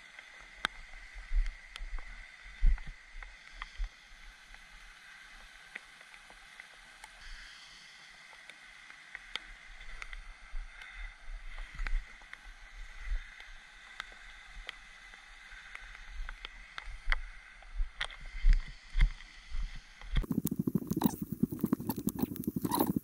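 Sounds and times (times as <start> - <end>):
faint outdoor hiss: 0.0 - 23.0.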